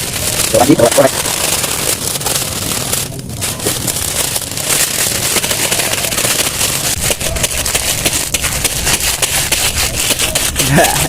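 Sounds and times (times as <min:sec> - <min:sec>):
dry noodles crunching: 0:00.0 - 0:11.0.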